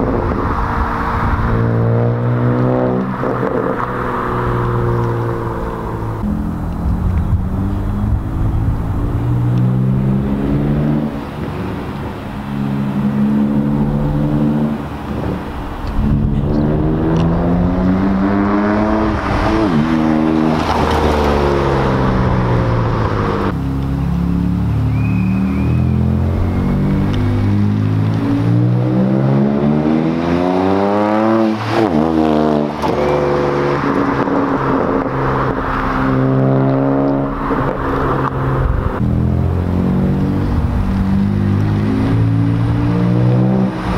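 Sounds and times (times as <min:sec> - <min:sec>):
car exhaust accelerating hard: 0:00.0 - 0:43.9.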